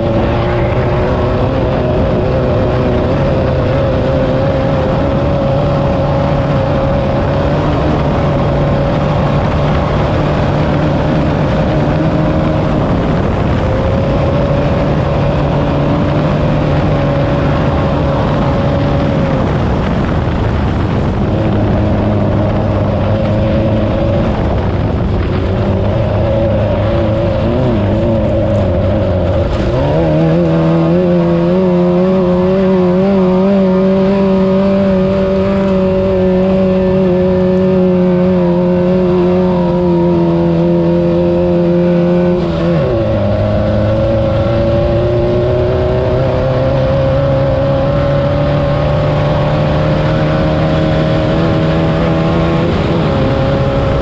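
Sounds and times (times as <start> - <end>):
race buggy engine running hard: 0.0 - 54.0.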